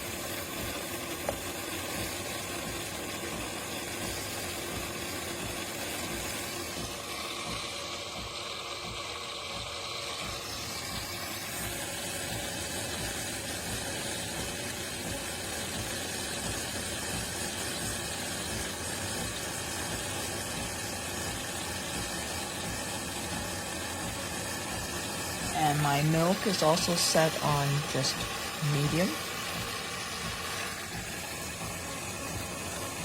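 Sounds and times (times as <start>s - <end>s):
espresso machine pump humming: 0.0s - 33.0s.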